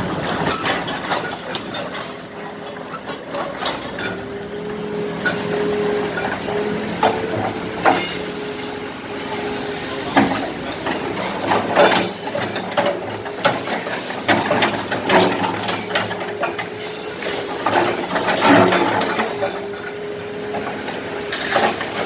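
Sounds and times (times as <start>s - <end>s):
excavator engine hum: 0.0s - 22.0s.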